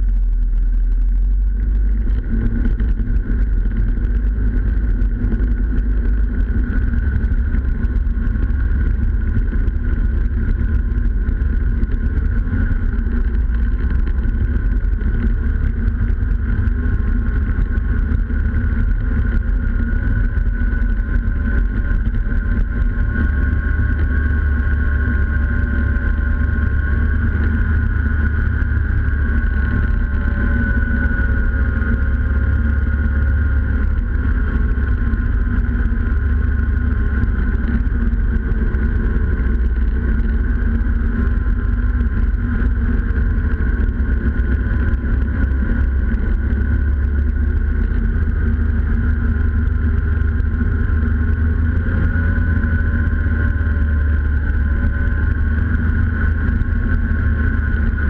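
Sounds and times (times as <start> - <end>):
deep drive rumble: 0.0 - 58.0
snowmobile engine running: 0.0 - 58.0.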